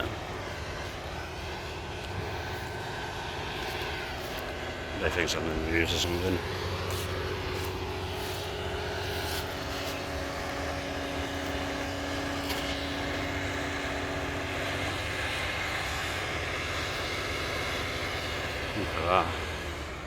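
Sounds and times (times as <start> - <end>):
excavator diesel engine running: 0.0 - 20.0
steady whine: 0.0 - 20.0.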